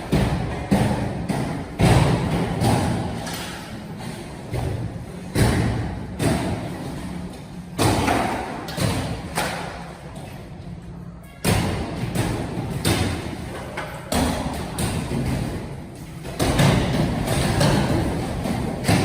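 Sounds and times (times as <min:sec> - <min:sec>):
demolition thuds and bangs: 0:00.0 - 0:09.7, 0:11.4 - 0:19.0.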